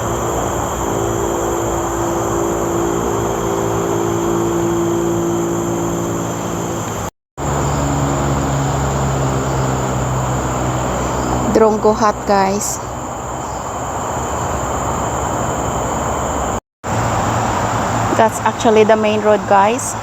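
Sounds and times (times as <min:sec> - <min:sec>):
high insect buzz: 0:00.0 - 0:16.6
traffic rumble: 0:00.0 - 0:20.0.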